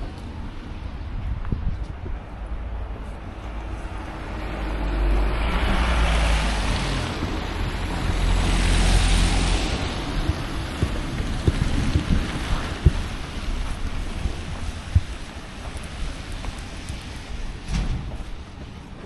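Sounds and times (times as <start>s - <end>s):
vehicles passing by: 0.0s - 19.0s.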